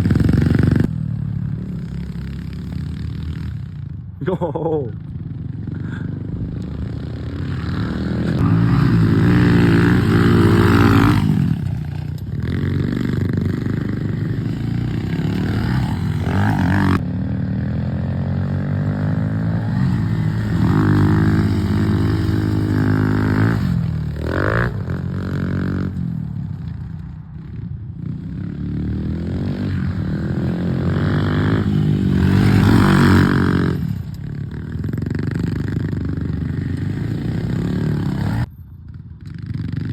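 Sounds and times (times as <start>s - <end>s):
pit bike engines revving: 0.0s - 26.6s, 27.2s - 38.5s.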